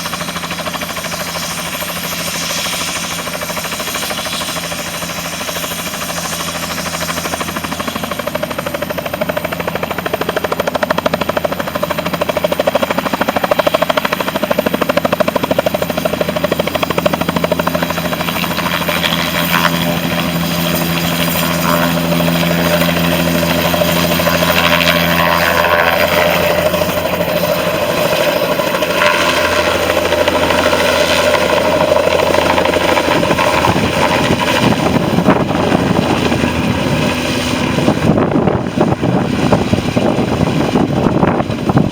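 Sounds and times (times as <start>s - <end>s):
helicopter turbine whine and blade chop: 0.0s - 41.9s.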